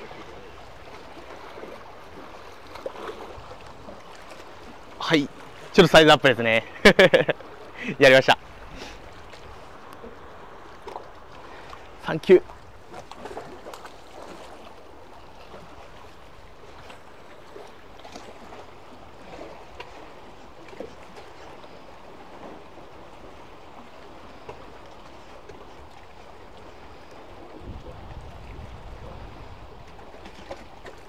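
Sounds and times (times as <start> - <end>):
sea water lapping against concrete: 0.0 - 31.0.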